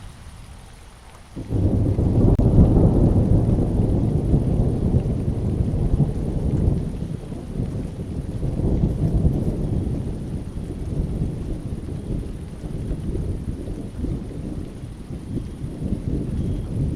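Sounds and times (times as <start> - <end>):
falling rain: 0.0 - 16.9
thunder rumbling: 1.3 - 16.9.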